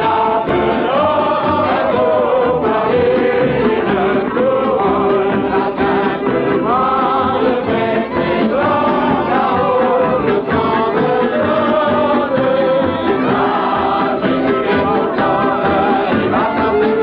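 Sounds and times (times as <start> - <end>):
man singing: 0.0 - 17.0
strummed acoustic guitars: 0.0 - 17.0
violin: 0.0 - 17.0.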